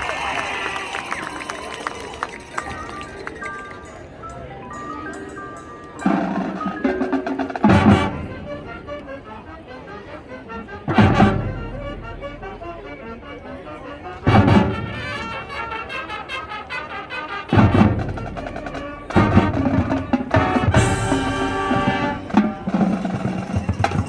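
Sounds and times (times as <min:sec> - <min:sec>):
marching band playing: 0:00.0 - 0:24.0.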